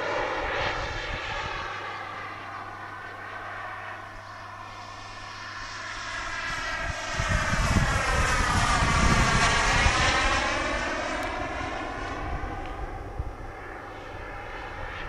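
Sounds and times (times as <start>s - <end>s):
model jet turbine whine: 0.0s - 15.0s.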